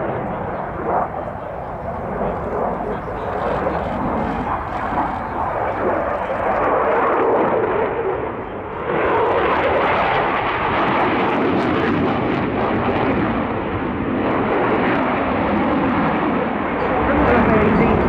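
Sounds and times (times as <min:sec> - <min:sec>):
jet engines roaring in flight: 0:00.0 - 0:18.0.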